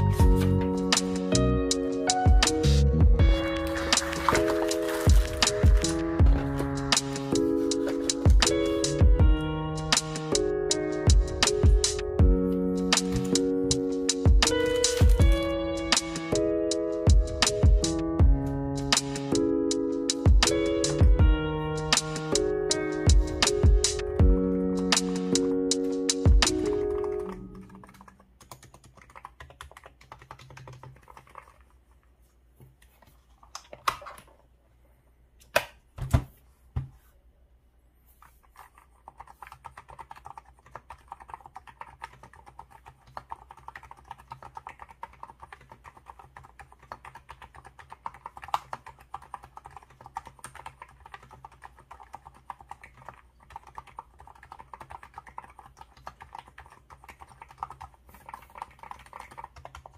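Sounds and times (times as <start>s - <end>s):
keyboard typing: 0.0s - 31.8s, 38.5s - 59.9s.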